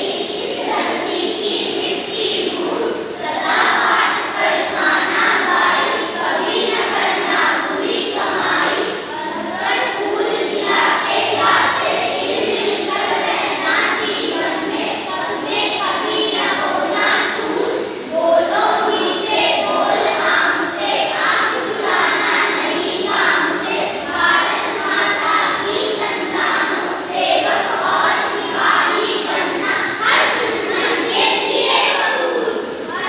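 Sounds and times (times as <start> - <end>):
children reciting in unison: 0.0 - 33.0.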